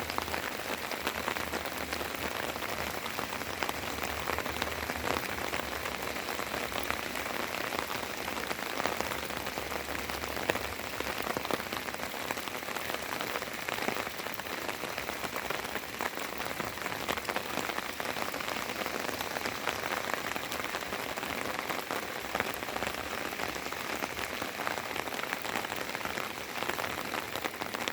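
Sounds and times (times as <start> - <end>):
rain falling: 0.0 - 27.9.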